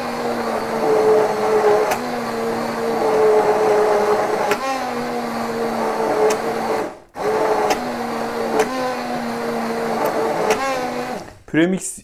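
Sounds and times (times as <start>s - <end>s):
immersion blender motor running: 0.0s - 11.4s.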